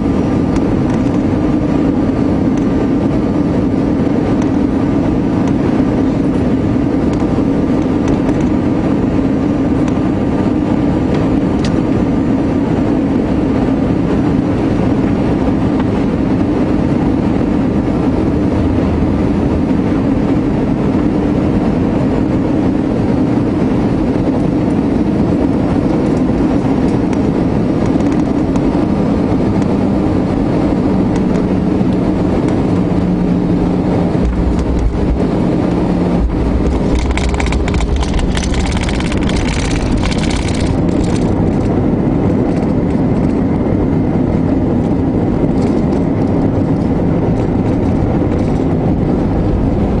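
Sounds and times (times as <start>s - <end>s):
jet engine drone in cabin: 0.0s - 50.0s.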